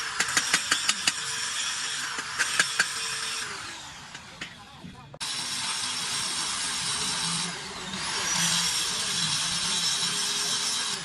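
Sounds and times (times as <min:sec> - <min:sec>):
high-speed power tool running: 0:00.0 - 0:04.4, 0:05.2 - 0:11.0.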